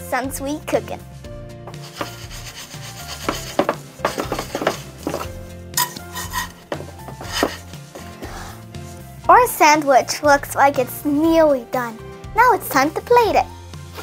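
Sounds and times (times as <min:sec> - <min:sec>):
background music with bass line: 0:00.0 - 0:14.0.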